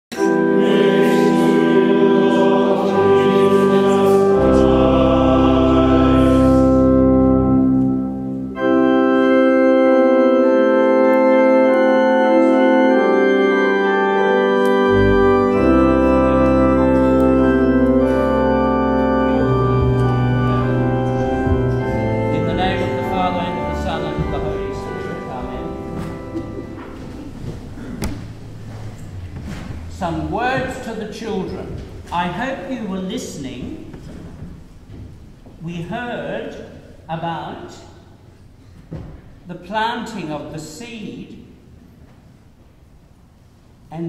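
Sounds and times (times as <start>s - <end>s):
church organ playing chords: 0.1s - 38.6s.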